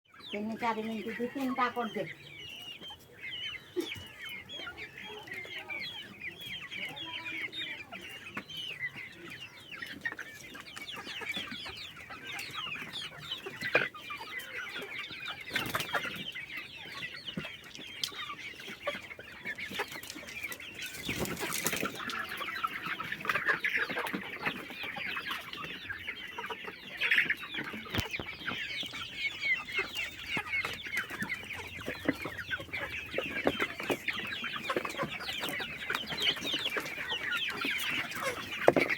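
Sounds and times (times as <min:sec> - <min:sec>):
chickens clucking and calling: 0:00.1 - 0:38.9.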